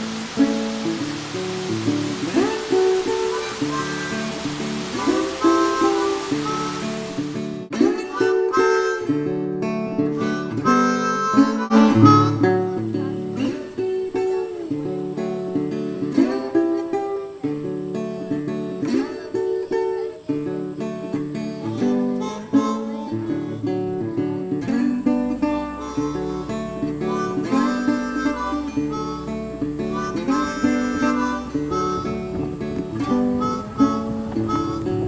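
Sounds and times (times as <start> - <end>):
acoustic guitar playing: 0.0 - 35.0
harmonica bending notes: 0.0 - 35.0.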